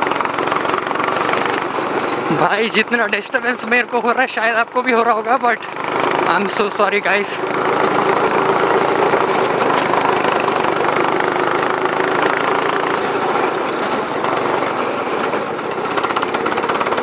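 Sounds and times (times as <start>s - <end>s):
go-kart engine running: 0.0s - 17.0s
steady rushing noise: 0.0s - 17.0s.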